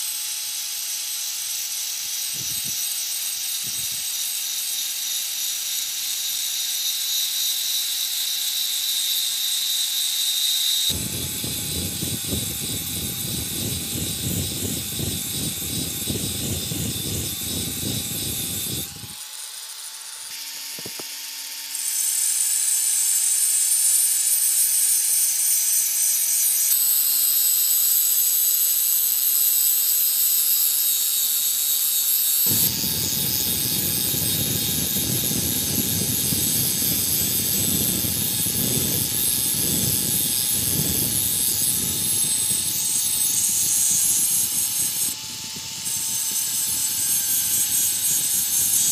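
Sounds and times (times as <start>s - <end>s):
angle grinder motor whine: 0.0s - 48.9s
grinding hiss on metal: 0.0s - 48.9s.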